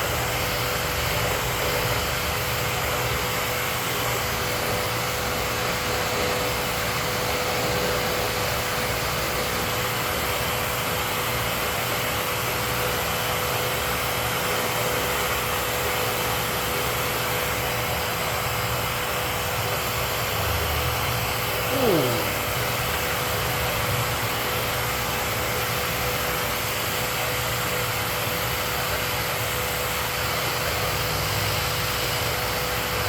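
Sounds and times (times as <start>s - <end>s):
vacuum running: 0.0s - 33.0s.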